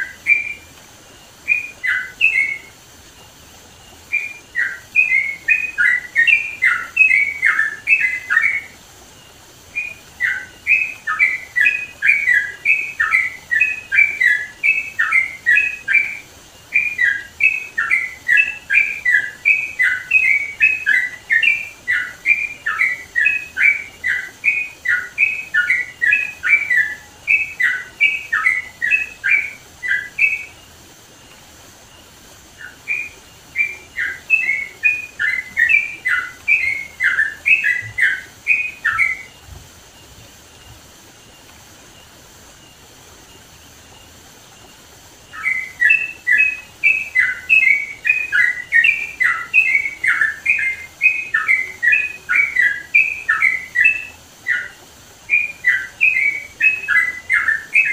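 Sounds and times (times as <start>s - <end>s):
bird singing chattering runs: 0.0s - 57.9s.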